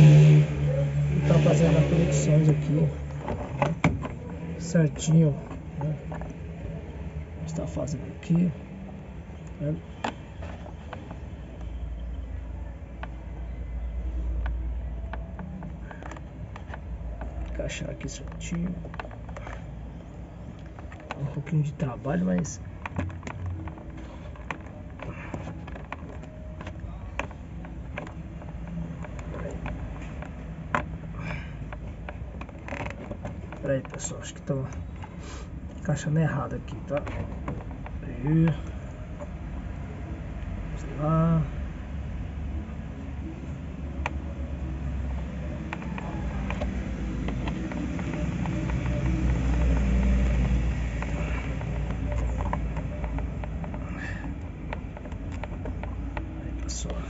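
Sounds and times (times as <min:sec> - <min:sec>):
low rumble with faint hum: 0:00.0 - 0:57.0
plastic connectors clicking: 0:01.4 - 0:57.0.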